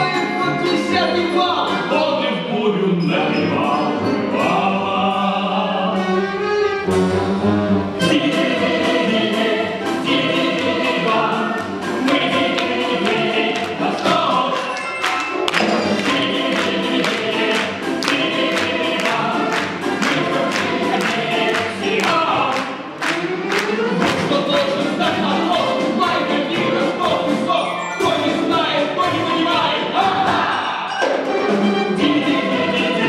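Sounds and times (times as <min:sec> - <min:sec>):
voices singing: 0:00.0 - 0:06.2, 0:08.0 - 0:33.0
folk string orchestra playing: 0:00.0 - 0:14.6, 0:15.3 - 0:30.2, 0:31.0 - 0:33.0.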